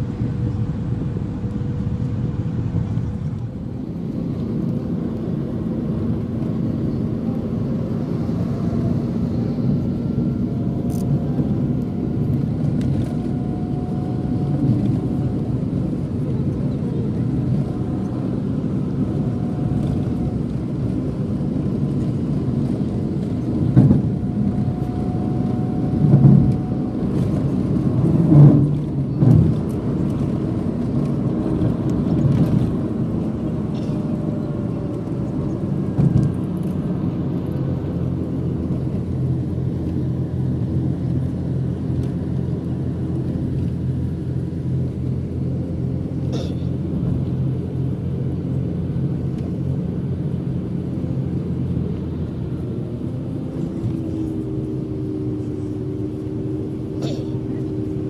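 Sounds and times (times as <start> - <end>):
car engine hum: 0.0 - 58.0
road noise: 0.0 - 58.0.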